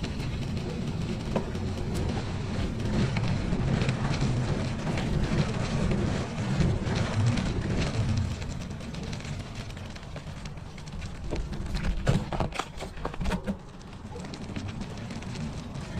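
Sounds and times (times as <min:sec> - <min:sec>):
bicycle clicks and rattles: 0:00.0 - 0:15.9
bicycle tyres rumbling: 0:00.0 - 0:15.9.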